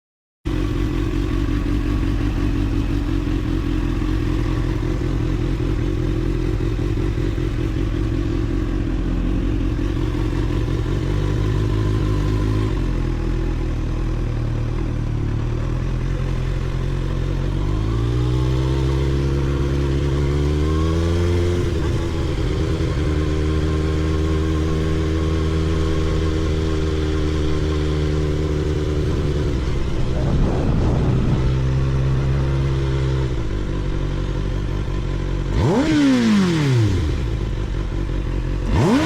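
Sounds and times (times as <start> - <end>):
motorcycle engine running: 0.5 - 39.0.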